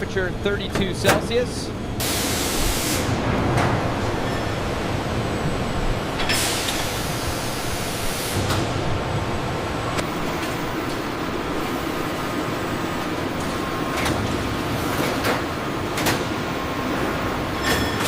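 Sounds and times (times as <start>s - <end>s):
factory machinery noise: 0.0s - 18.0s.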